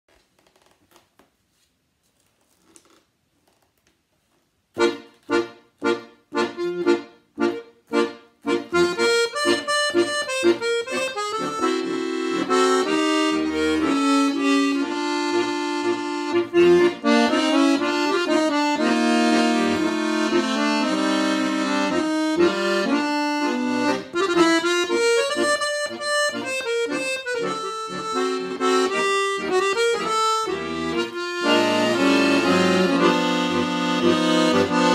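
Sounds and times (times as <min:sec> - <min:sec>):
accordion playing: 0:04.8 - 0:34.9.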